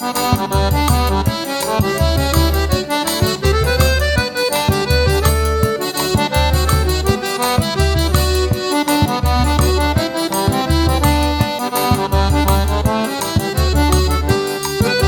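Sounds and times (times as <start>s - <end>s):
accordion melody: 0.0s - 15.0s
bass drum beat: 0.3s - 15.0s.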